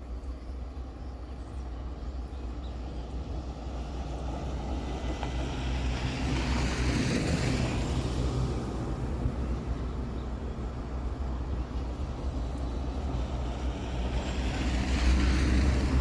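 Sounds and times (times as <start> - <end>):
diesel locomotive engine hum: 0.0 - 16.0.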